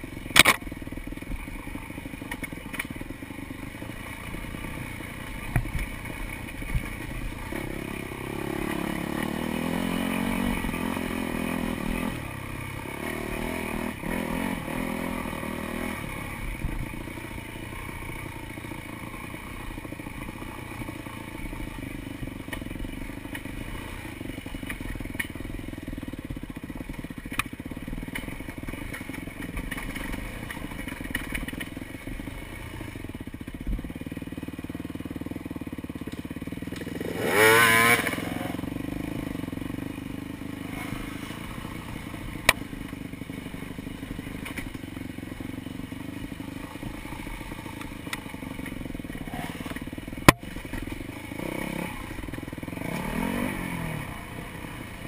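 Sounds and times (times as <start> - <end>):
dirt bike engine revving: 0.0 - 25.2, 25.9 - 55.0.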